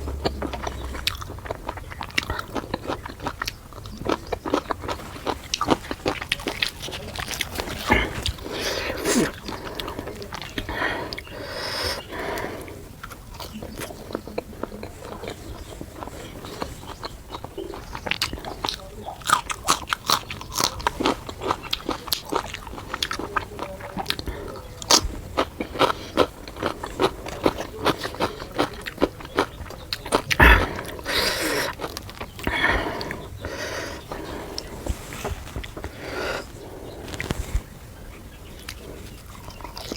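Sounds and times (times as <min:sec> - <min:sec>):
chewing and biting with mouth smacks: 0:00.0 - 0:34.9, 0:38.2 - 0:39.9.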